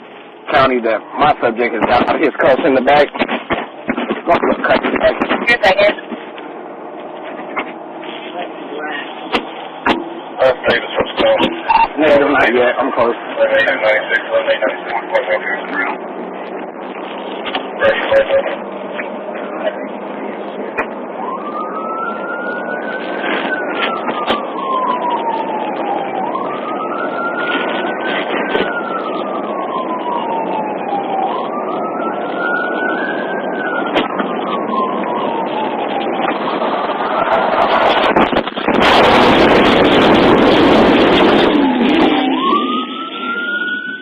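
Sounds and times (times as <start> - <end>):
road and engine noise: 0.0 - 44.0
rushing noise with crackles: 0.0 - 44.0
police siren wailing: 0.3 - 44.0.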